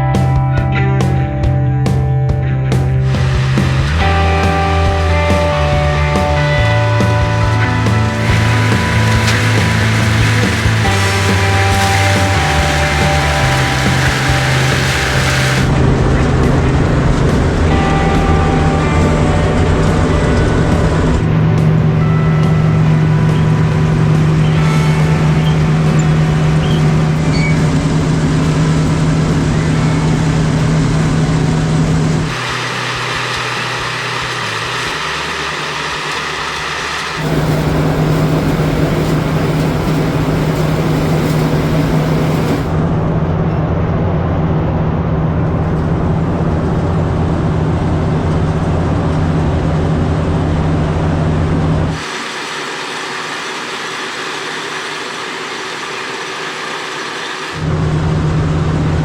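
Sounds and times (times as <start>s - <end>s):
tractor engines running: 0.0s - 59.0s
high-pitched machinery noise: 3.0s - 43.2s, 50.6s - 59.0s.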